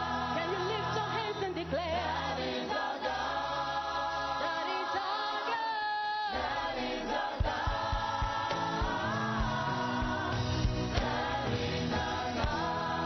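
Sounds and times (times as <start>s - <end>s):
choir singing gospel: 0.0s - 13.0s.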